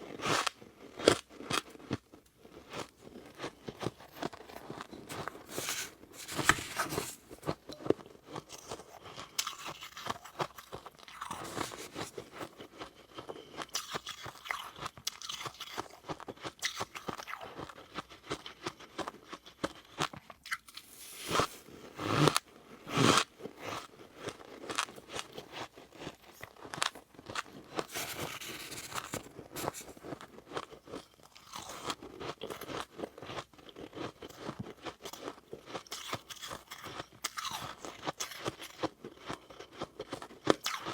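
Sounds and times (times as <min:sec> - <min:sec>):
crunching and chewing frost: 0:00.0 - 0:40.9.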